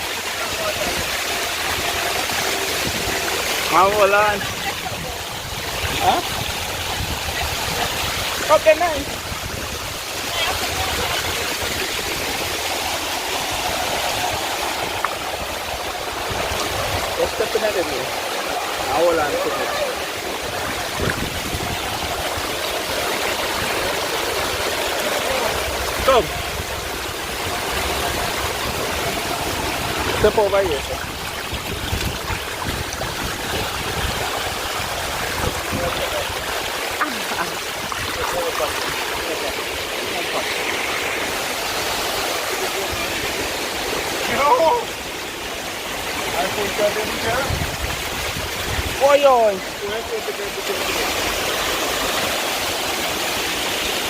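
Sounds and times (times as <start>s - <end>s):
water cascading over rocks: 0.0s - 54.0s.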